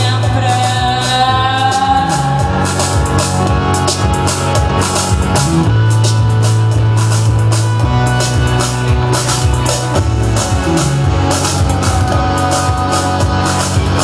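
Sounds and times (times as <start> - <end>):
drum kit with cymbal strokes: 0.0 - 14.0
electric guitar: 0.0 - 14.0
long held bass notes: 0.0 - 14.0.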